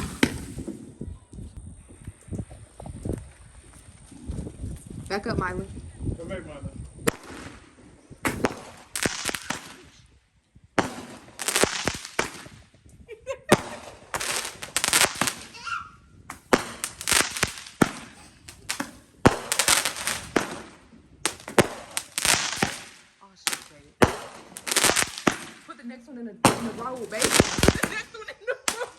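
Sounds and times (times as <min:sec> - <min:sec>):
fireworks crackling pops: 0:00.0 - 0:03.9, 0:06.8 - 0:28.9.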